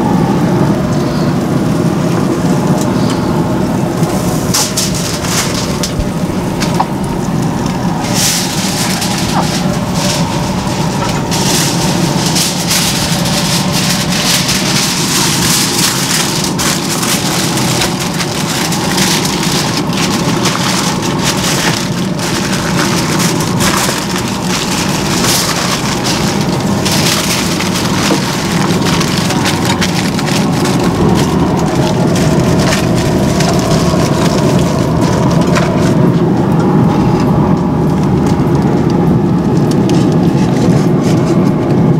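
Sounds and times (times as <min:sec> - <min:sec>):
steady low hum: 0:00.0 - 0:41.9
aluminium foil crinkling: 0:02.4 - 0:41.9.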